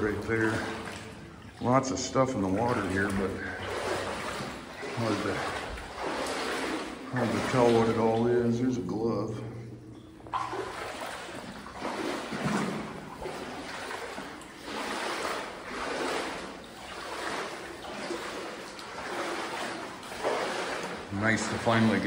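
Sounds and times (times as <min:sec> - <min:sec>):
person wading through water: 0:00.0 - 0:22.0.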